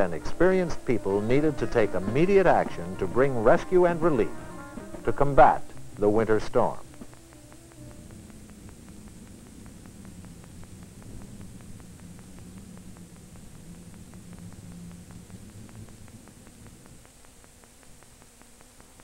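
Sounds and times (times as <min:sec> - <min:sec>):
fast even ticking: 0:00.0 - 0:19.0
film soundtrack hum and hiss: 0:00.0 - 0:19.0.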